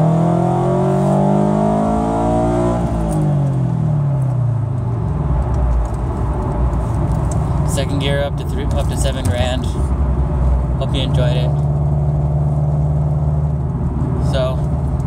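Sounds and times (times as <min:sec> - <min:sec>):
car engine accelerating: 0:00.0 - 0:15.0
road noise rumble: 0:00.0 - 0:15.0.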